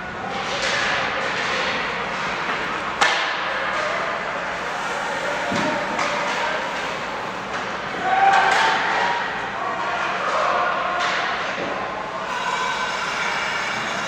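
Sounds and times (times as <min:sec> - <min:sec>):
skating and rink noise: 0:00.0 - 0:14.0.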